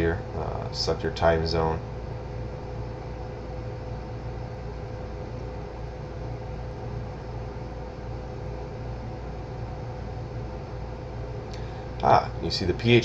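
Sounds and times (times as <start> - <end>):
background hum and hiss: 0.0 - 13.0
faint constant tone: 0.0 - 13.0.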